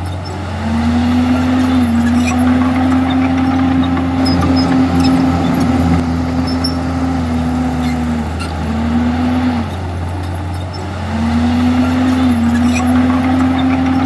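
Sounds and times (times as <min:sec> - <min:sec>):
bulldozer diesel engine under load: 0:00.0 - 0:14.0.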